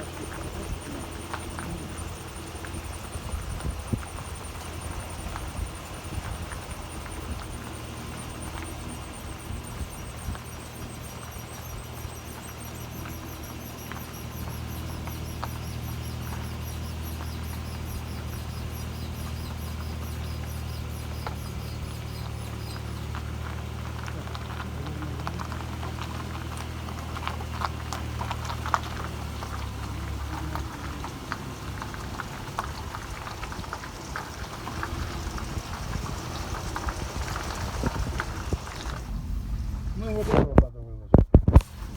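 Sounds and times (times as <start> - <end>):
high-pitched squeaking: 0.0 - 39.0
clicks and crackling: 0.0 - 39.2, 40.0 - 41.9
low hum: 0.0 - 41.9.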